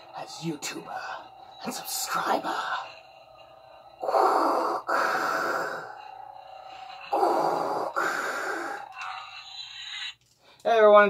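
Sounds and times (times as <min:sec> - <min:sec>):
heavy rasping breathing: 0:00.0 - 0:10.5.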